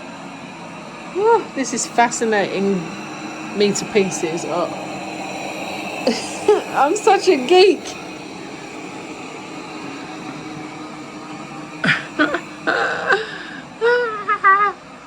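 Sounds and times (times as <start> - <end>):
robot vacuum whirring on carpet: 0.0 - 15.0.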